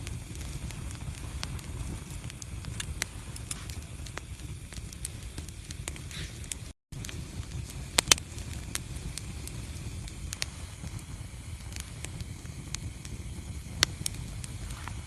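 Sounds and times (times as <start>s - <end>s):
fire crackling: 0.0s - 15.0s
low rumble of flames: 0.0s - 15.0s
sharp pops of fire: 0.0s - 15.0s.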